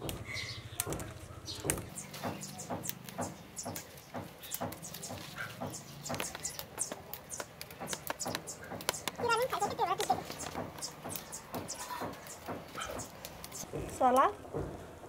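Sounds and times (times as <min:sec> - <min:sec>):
plants rustling and clicking: 0:00.0 - 0:14.8
sandalled footsteps on path: 0:00.8 - 0:14.8.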